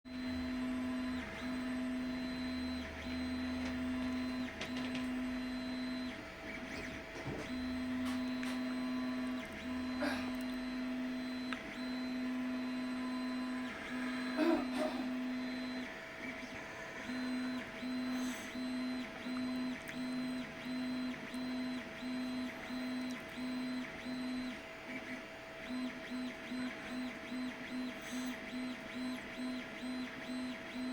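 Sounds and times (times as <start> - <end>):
pulsing computer hum: 0.1 - 30.9.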